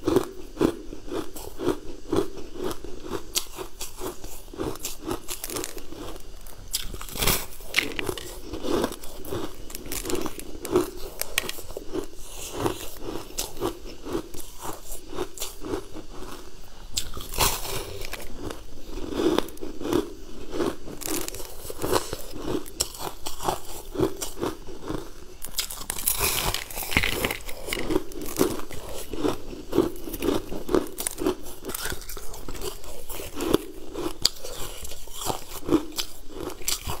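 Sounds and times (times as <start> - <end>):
crunchy biting and chewing: 0.0 - 37.0.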